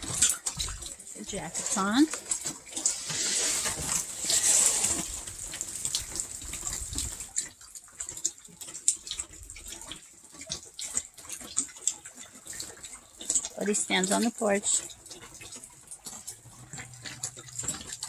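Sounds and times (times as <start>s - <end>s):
rain falling: 0.0s - 18.0s
water drips: 0.0s - 18.0s.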